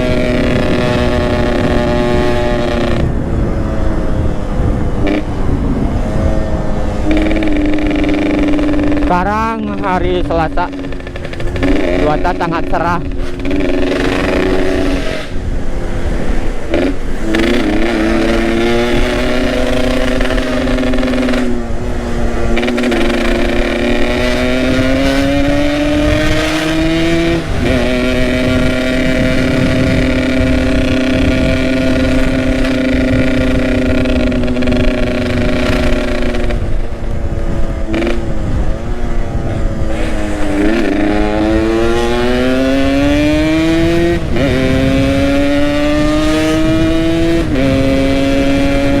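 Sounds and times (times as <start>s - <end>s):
motorcycle engine revving: 0.0s - 49.0s
wind on microphone: 0.0s - 49.0s.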